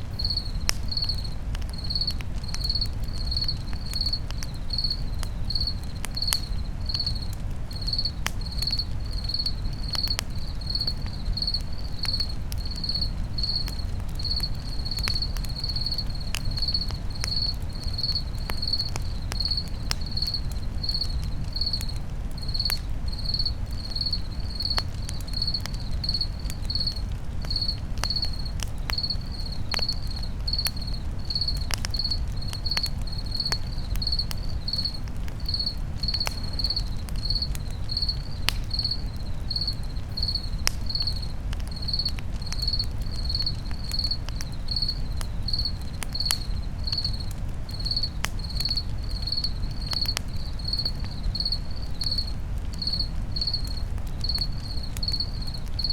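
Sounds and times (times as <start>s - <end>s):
campfire crackling: 0.0s - 55.9s
crickets chirping: 0.0s - 55.9s.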